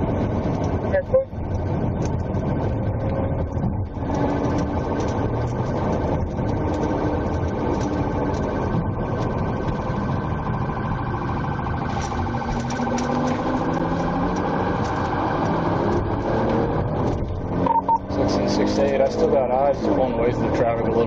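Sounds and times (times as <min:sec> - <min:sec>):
vehicle running drone: 0:00.0 - 0:21.0.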